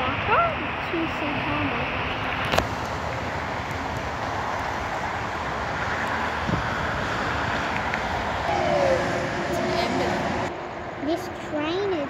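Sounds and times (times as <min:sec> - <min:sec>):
steady outdoor background noise: 0:00.0 - 0:12.0.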